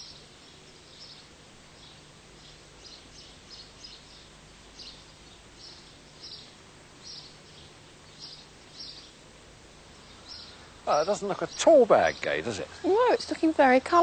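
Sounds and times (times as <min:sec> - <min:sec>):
small bird chirping: 0:00.0 - 0:09.2, 0:09.9 - 0:13.6
faint steady hiss: 0:00.0 - 0:14.0.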